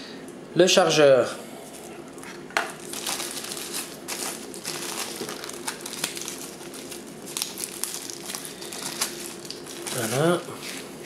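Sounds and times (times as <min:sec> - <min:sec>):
packaging wrap crinkling: 0:01.7 - 0:10.9.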